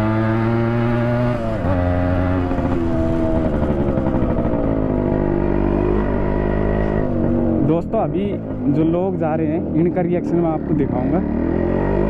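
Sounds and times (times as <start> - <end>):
motorcycle open exhaust: 0.0 - 12.0.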